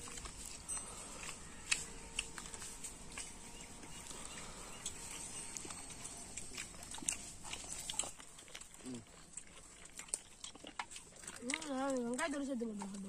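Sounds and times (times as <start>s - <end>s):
people chewing food: 0.0s - 13.0s.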